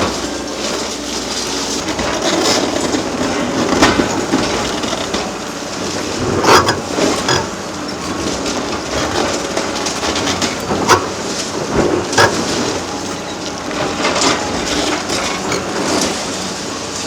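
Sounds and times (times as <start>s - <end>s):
concrete crunching and grinding: 0.0s - 17.0s.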